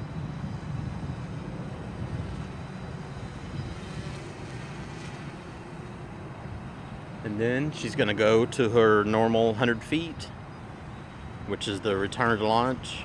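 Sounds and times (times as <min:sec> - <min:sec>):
low rumbling outdoor background noise: 0:00.0 - 0:13.0.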